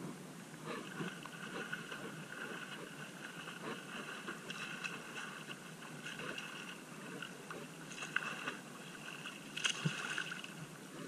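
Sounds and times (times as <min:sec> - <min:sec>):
sea water sloshing: 0:01.0 - 0:10.7.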